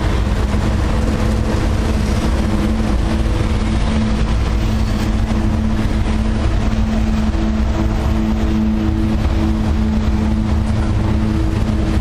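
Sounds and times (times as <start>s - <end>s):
diesel locomotives humming: 0.0s - 12.0s
wheels rumbling on rail: 0.0s - 12.0s.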